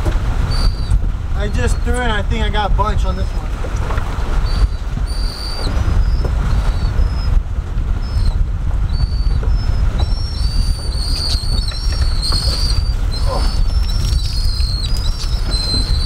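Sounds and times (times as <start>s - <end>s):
wind buffeting microphone: 0.0s - 16.0s
seabirds squeaky calls: 0.5s - 7.4s, 8.0s - 16.0s.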